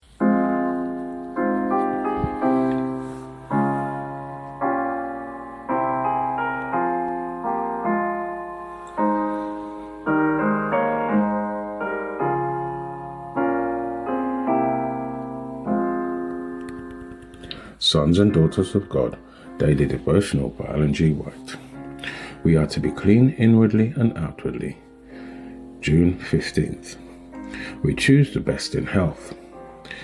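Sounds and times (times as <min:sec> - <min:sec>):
slow solo piano chords: 0:00.0 - 0:30.0.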